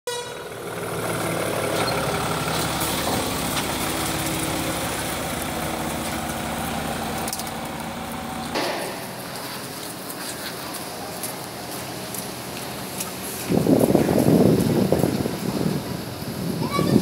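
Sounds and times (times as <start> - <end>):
truck diesel engine running: 0.1 - 17.0.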